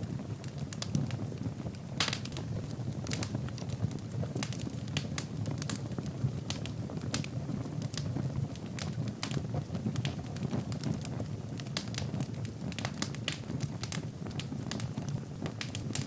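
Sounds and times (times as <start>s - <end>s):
fire flames rumbling: 0.0s - 16.0s
logs crackling and popping: 0.0s - 16.0s.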